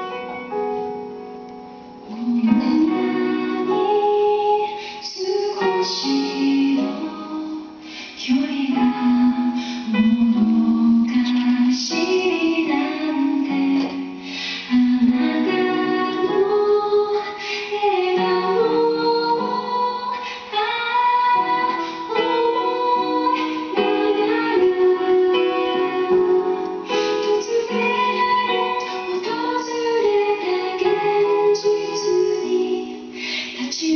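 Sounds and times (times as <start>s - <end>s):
instrumental accompaniment: 0.0s - 33.9s
woman singing slow melody: 2.0s - 33.9s.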